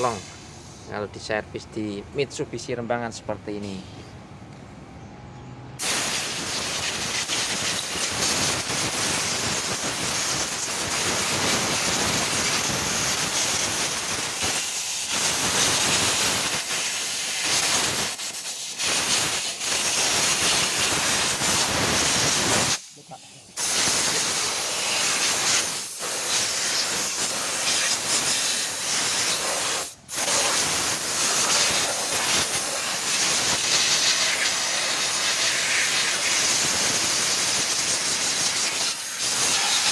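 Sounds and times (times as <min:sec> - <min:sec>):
air blow gun hissing: 0:00.0 - 0:01.0, 0:05.8 - 0:39.9.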